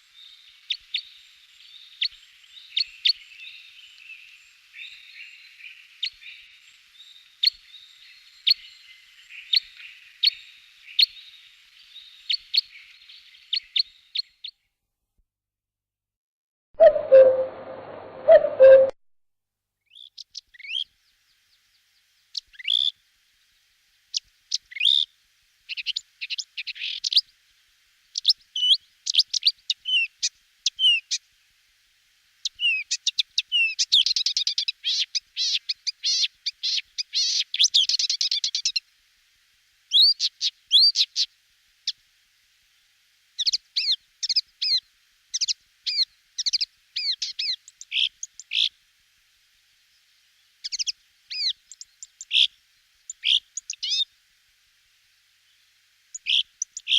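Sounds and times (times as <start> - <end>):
small birds chirping: 0.0 - 14.7, 19.8 - 27.4, 28.0 - 31.3, 32.4 - 38.9, 39.9 - 42.0, 43.3 - 48.8, 49.8 - 54.1, 55.4 - 56.9.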